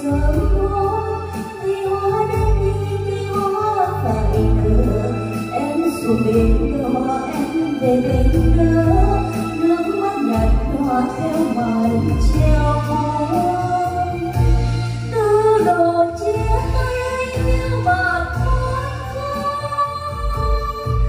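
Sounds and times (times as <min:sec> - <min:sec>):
karaoke backing track: 0:00.0 - 0:21.0
woman singing into microphone: 0:00.0 - 0:21.0.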